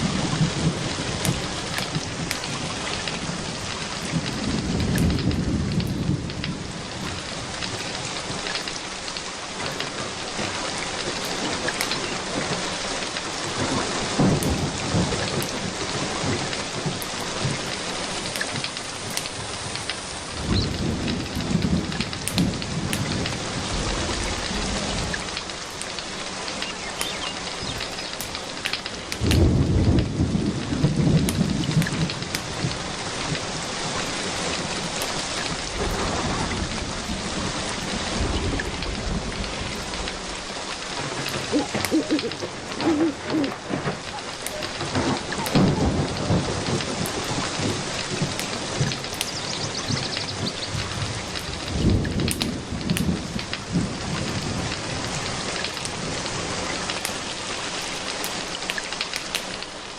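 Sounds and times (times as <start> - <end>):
rolling thunder: 0.0 - 25.9, 27.3 - 57.1
steady rain: 0.0 - 59.9.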